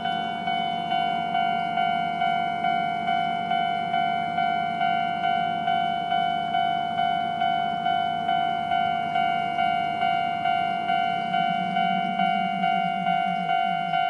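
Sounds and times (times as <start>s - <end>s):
level-crossing warning bell: 0.0s - 14.0s.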